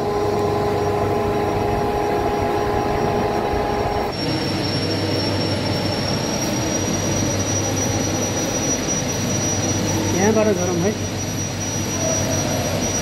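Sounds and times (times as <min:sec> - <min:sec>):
machinery hum with held tones: 0:00.0 - 0:13.0
thin high-pitched whine: 0:00.0 - 0:13.0.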